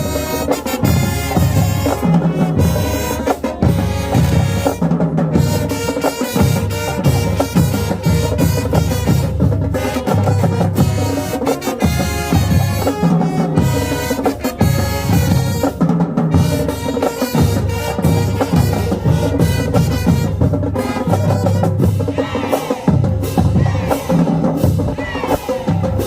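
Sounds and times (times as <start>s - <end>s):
brass chords: 0.0s - 22.1s
bass and snare drums: 0.0s - 26.0s.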